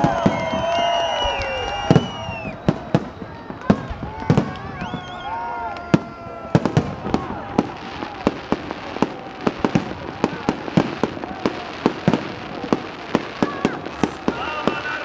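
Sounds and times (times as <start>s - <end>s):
fireworks bursting with sharp bangs: 0.0s - 15.0s.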